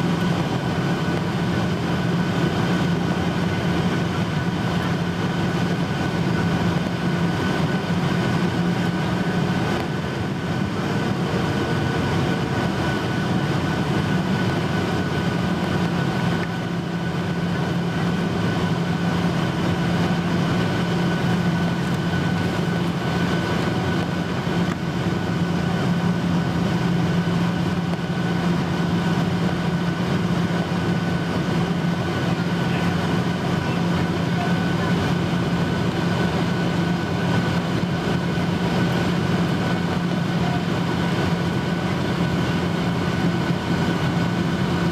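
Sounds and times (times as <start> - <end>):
aircraft cabin airflow rush: 0.0 - 44.9
jet engine drone: 0.0 - 44.9.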